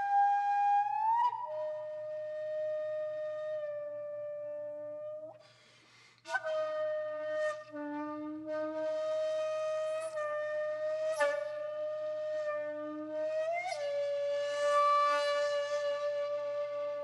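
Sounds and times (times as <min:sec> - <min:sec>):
flute-like held notes: 0:00.0 - 0:05.4, 0:06.3 - 0:17.0.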